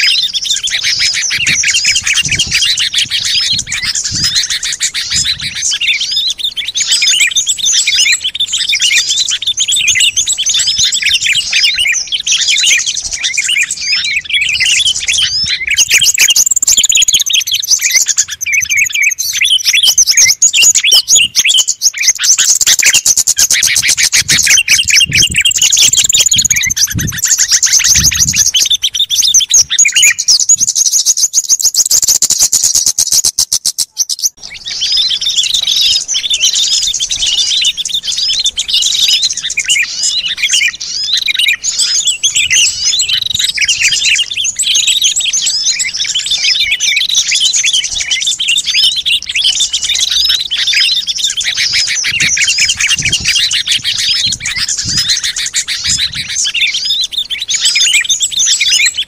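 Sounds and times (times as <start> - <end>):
birds fast trills: 0.0 - 59.0
songbirds chirping in chorus: 0.0 - 59.0.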